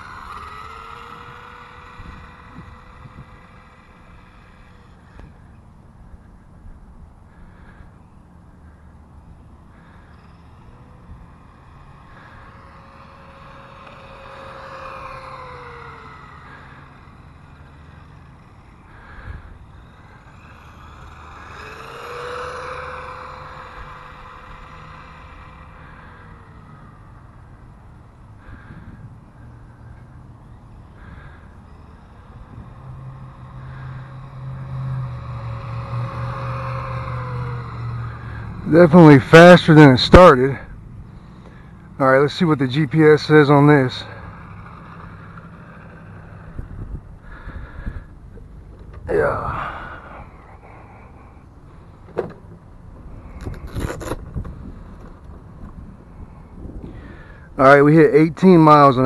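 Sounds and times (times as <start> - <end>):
toy truck electric motor whining: 0.0 - 5.6, 9.2 - 56.2
tyre noise on asphalt: 9.7 - 58.1.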